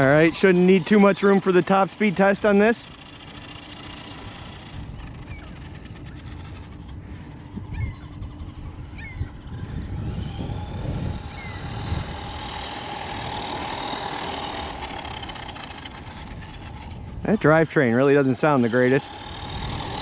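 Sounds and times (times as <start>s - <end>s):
toy truck electric motor whining: 0.0s - 20.0s.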